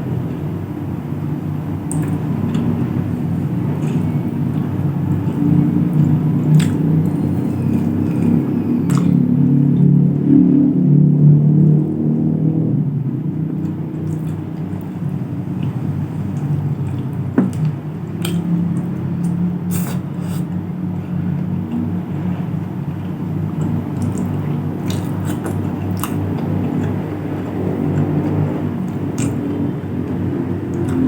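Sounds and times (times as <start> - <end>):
steady low rumble: 0.0 - 31.0
wet chewing sounds: 1.8 - 9.3, 13.5 - 31.0.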